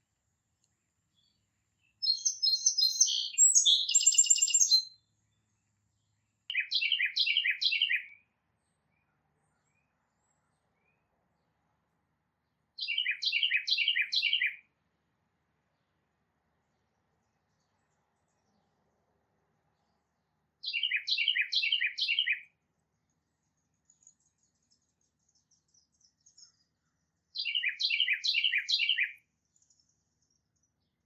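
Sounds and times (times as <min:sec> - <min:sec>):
songbird singing: 0:00.0 - 0:14.7, 0:19.6 - 0:31.0.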